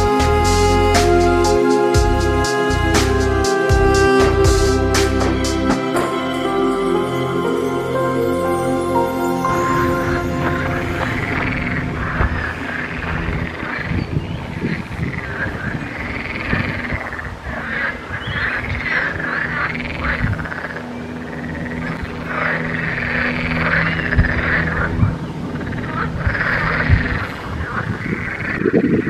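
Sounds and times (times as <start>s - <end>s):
frogs croaking: 0.0s - 29.0s.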